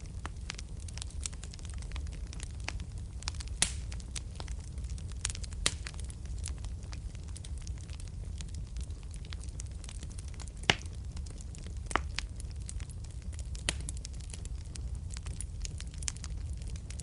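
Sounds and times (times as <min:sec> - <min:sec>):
low rumble of flames: 0:00.0 - 0:17.0
small fire crackles: 0:00.0 - 0:17.0.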